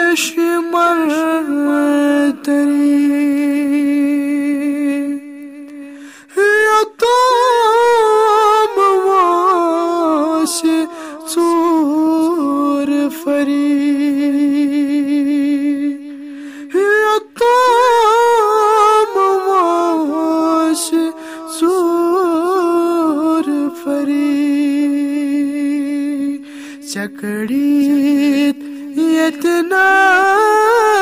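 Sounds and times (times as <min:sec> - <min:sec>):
man singing a cappella: 0:00.0 - 0:31.0.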